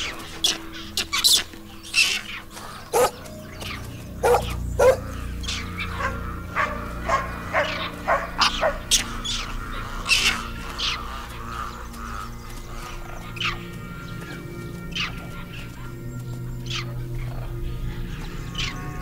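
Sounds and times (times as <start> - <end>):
dogs barking: 0.0 - 19.0.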